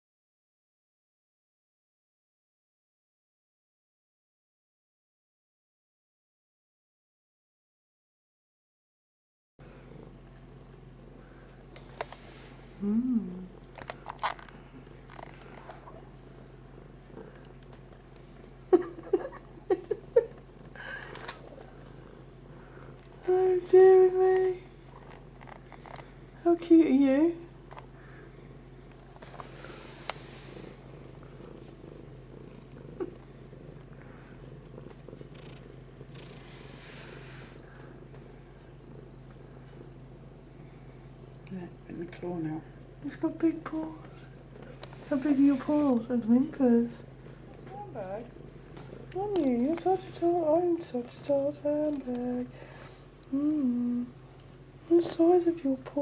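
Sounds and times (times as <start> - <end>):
cat purring: 9.6 - 56.0.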